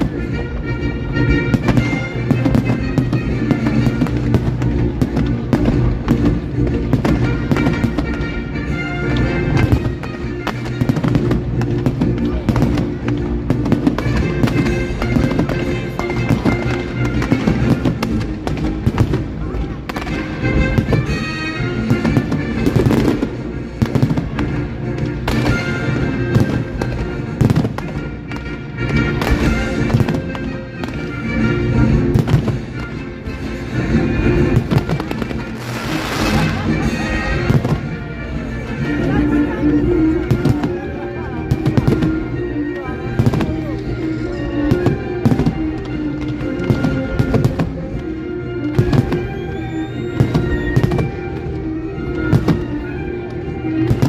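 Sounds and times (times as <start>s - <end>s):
music playing: 0.0s - 54.0s
fireworks bangs and cracks: 1.3s - 33.0s, 33.6s - 39.2s, 40.1s - 42.4s, 43.0s - 44.0s, 44.6s - 54.0s.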